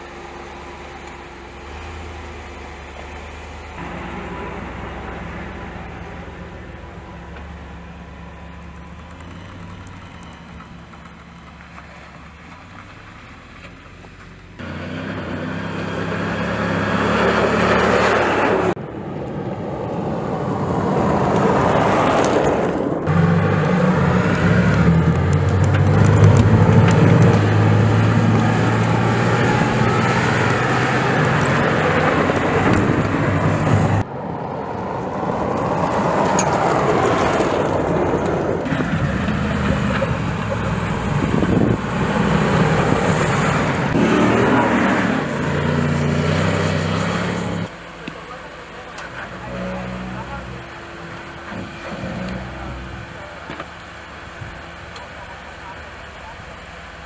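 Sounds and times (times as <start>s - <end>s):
pickup engine under load: 0.0s - 57.0s
tyre and road noise: 0.0s - 57.0s.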